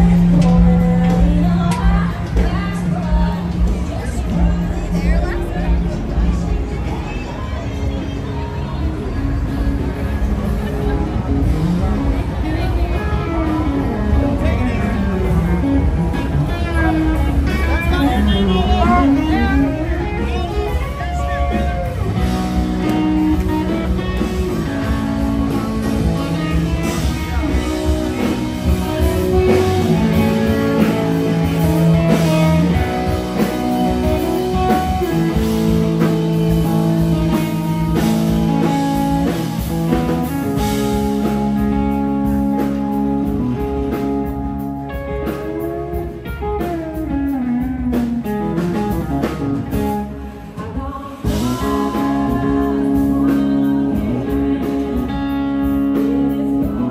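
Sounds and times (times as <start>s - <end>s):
drums: 0.0s - 56.9s
electric guitar held notes: 0.0s - 56.9s.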